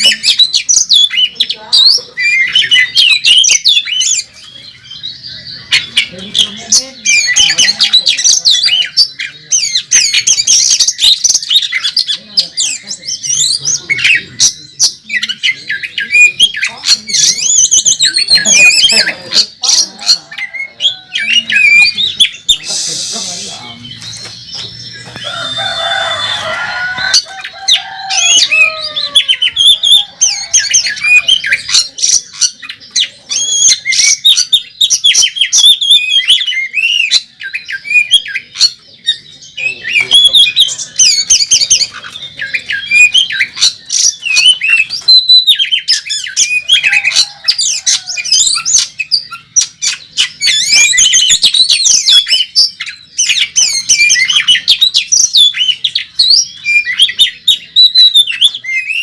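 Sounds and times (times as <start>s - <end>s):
magpie-robin singing: 0.0s - 59.0s.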